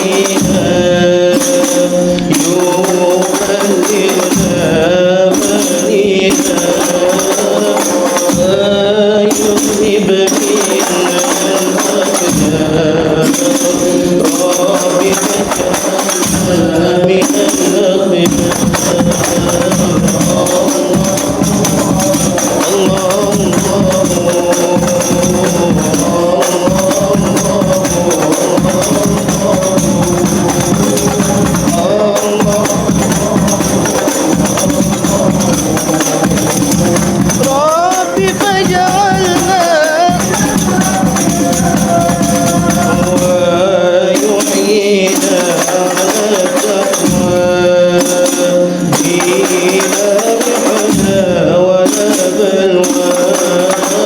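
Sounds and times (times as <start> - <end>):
frame drums with jingles: 0.0 - 54.0
person singing: 0.0 - 54.0.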